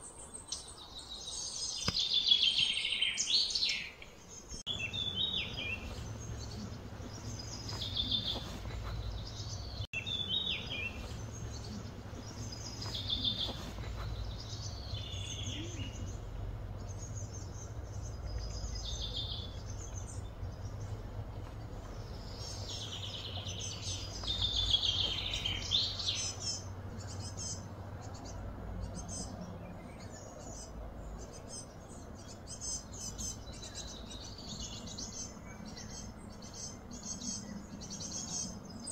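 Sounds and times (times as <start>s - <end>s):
birds chirping: 0.0s - 38.9s
steady low hum: 4.3s - 38.9s.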